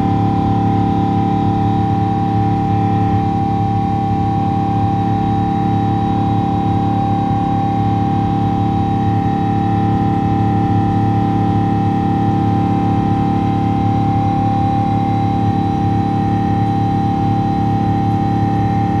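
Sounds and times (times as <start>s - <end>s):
engine whine: 0.0s - 19.0s
jet engine rumble in cabin: 0.0s - 19.0s.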